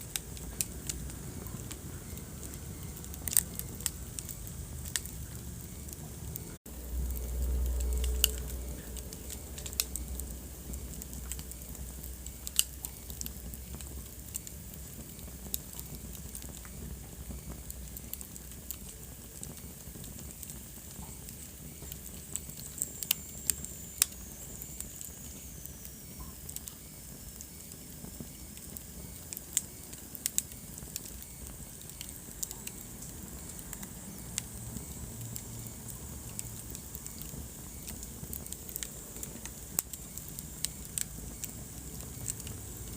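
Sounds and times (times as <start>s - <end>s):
fire crackles and pops: 0.0s - 42.9s
hiss of flames: 0.0s - 42.9s.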